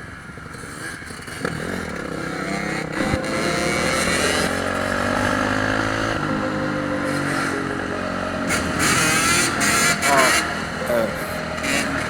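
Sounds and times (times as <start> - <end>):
dirt bike engines revving: 0.2 - 12.0.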